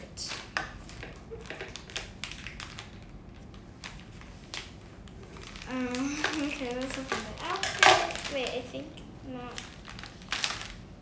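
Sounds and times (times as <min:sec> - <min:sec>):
plastic crinkling: 0:00.2 - 0:11.0.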